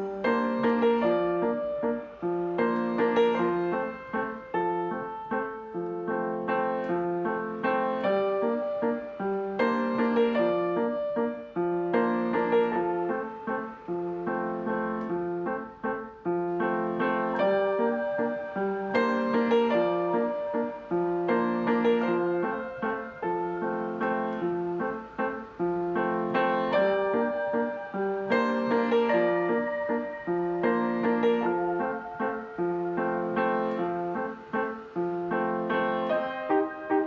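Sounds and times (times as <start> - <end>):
gentle piano music: 0.0 - 37.0.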